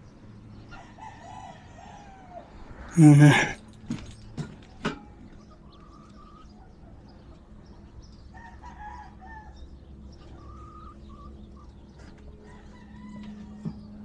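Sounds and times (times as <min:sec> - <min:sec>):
roosters crowing in the distance: 0:00.0 - 0:14.0.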